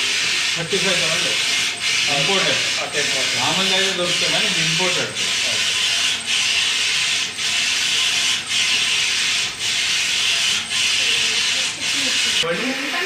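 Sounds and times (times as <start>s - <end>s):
machine rubbing and hissing: 0.0s - 13.0s.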